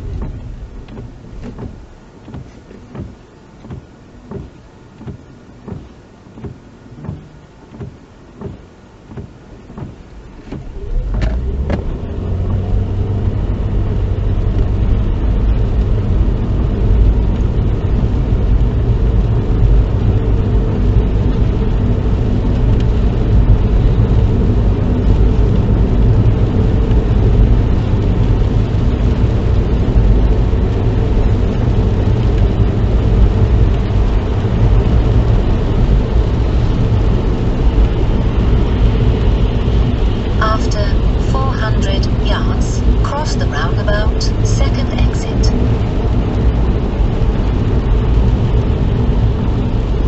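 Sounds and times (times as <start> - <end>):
car cabin road noise: 0.0 - 50.0.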